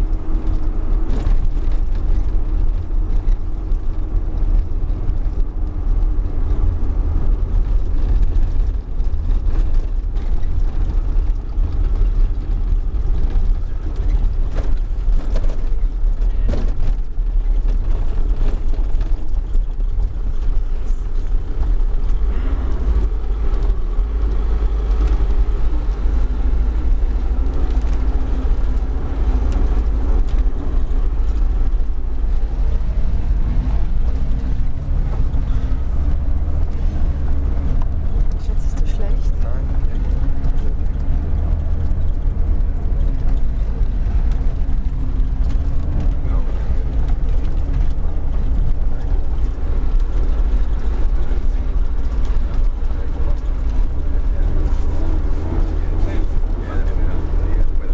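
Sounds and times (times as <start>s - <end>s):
tyres on rough dirt road: 0.0s - 57.9s
vehicle engine rumbling: 0.0s - 57.9s.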